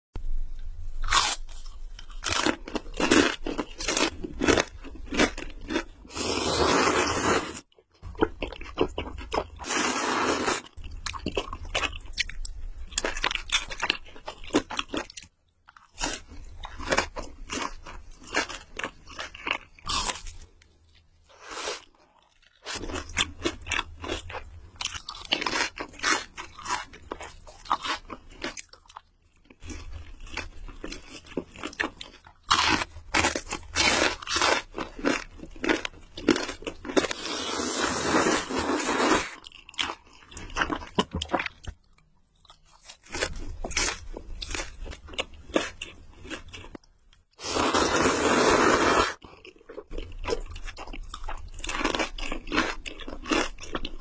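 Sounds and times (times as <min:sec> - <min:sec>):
crunchy bites and chewing: 0:01.0 - 0:10.0, 0:10.6 - 0:48.3, 0:49.2 - 0:54.0.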